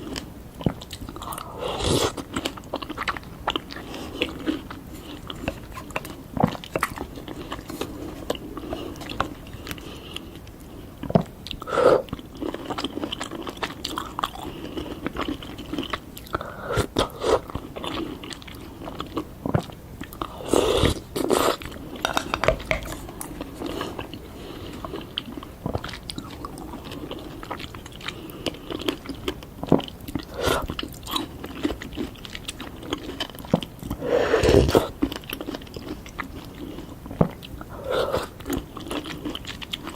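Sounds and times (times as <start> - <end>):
biting and chewing fruit: 0.0 - 39.9.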